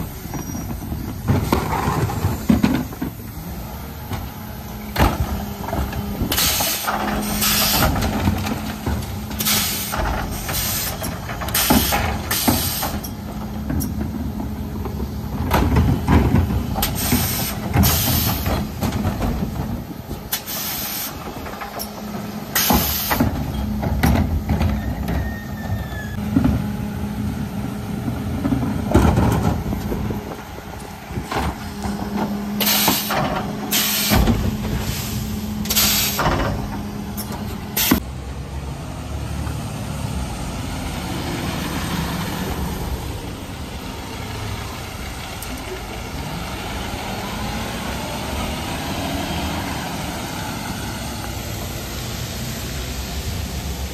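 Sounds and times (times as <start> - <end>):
diesel truck engine running: 0.0 - 53.9
hydraulics humming: 0.0 - 53.9.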